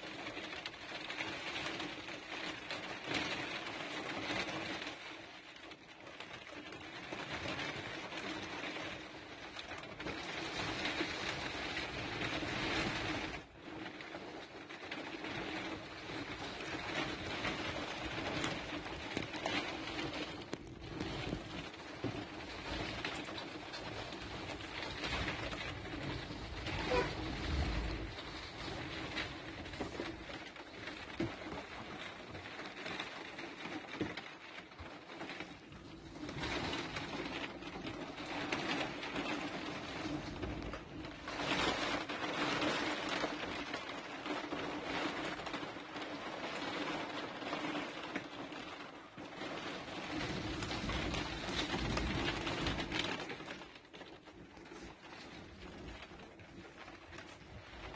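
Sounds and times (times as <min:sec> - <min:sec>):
rain on a vehicle roof: 0:00.0 - 0:57.9.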